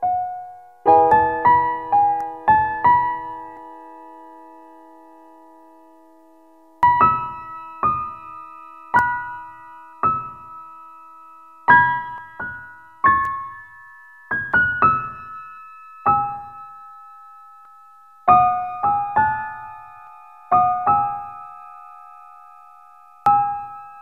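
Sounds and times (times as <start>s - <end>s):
slow sparse piano melody: 0.0s - 24.0s.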